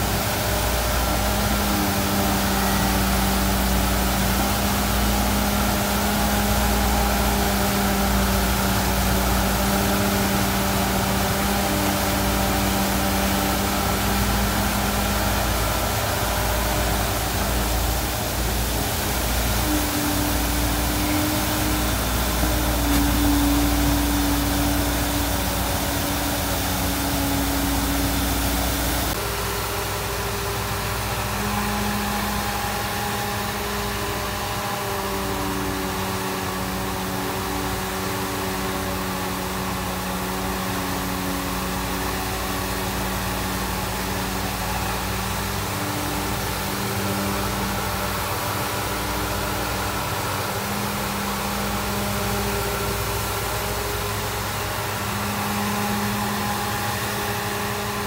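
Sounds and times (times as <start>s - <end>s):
diesel engines running: 0.0s - 58.0s
water gushing from a pipe: 0.0s - 58.0s.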